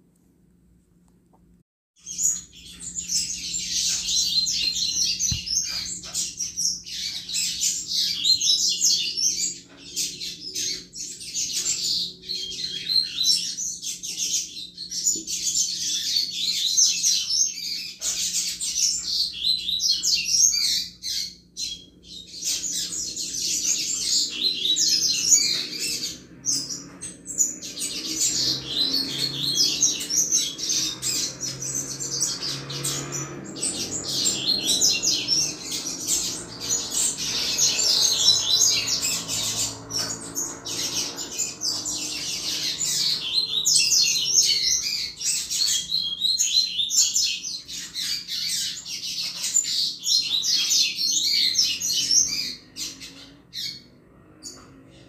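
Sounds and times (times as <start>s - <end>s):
bird twittering: 2.0s - 53.8s.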